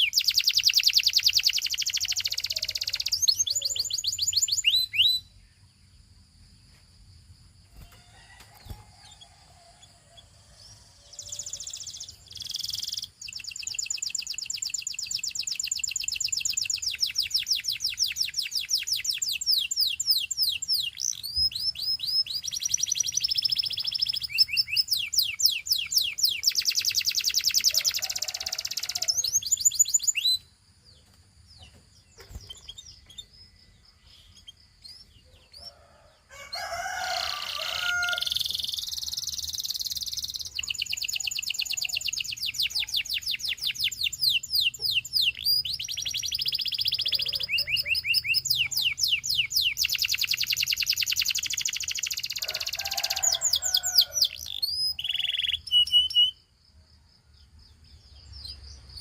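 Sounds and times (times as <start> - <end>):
canary singing trills: 0.0 - 6.2, 7.7 - 56.6.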